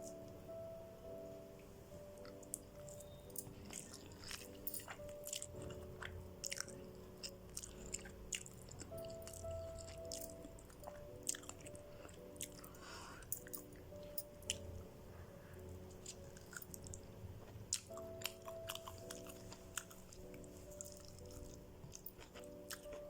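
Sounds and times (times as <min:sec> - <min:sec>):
person chewing: 0:02.2 - 0:13.8, 0:15.9 - 0:23.0.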